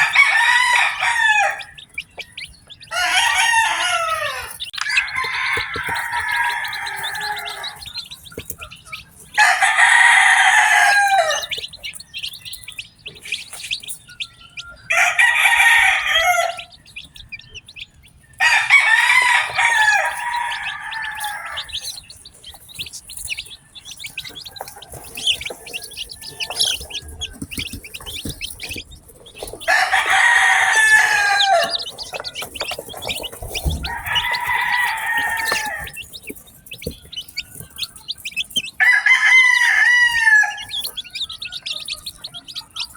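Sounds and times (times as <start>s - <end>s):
rooster crowing: 0.0s - 1.9s, 2.8s - 8.1s, 9.4s - 11.7s, 14.6s - 16.8s, 18.4s - 42.2s
chicks peeping: 0.0s - 42.9s.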